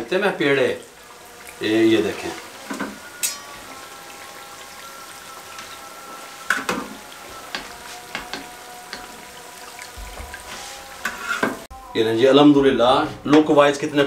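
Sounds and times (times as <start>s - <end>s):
hot oil sizzling with pops: 0.0s - 11.7s.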